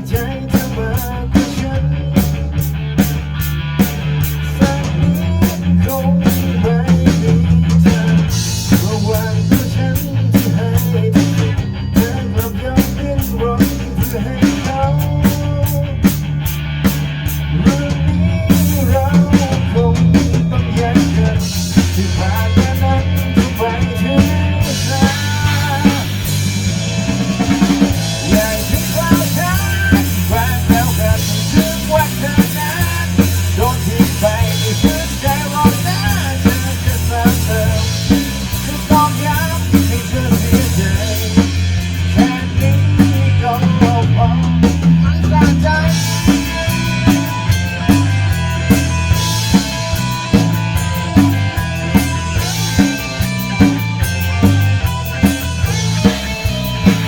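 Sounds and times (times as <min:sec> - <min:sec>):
bass drum and snare beat: 0:00.0 - 0:57.0
bass line: 0:00.0 - 0:57.0
rock band playing: 0:00.0 - 0:57.0.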